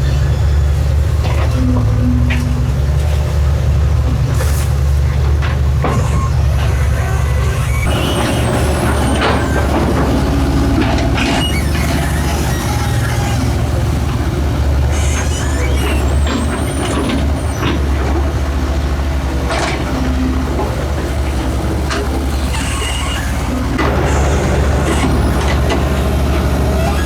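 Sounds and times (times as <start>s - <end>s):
excavator diesel engine digging: 0.0s - 27.0s.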